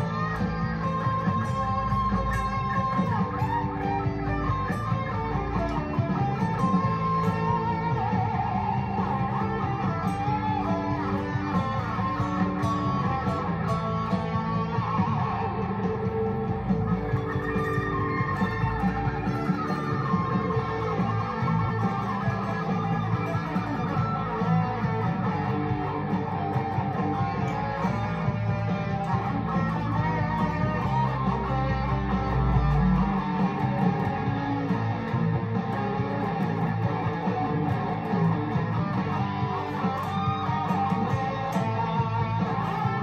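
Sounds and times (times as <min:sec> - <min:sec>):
electric guitar playing: 0:00.0 - 0:43.0.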